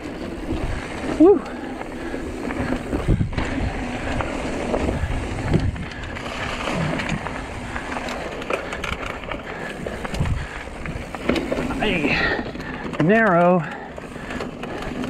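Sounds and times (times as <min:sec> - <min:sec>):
bike knocks and rattles: 0:00.0 - 0:15.0
bike tyres on dirt: 0:00.0 - 0:15.0.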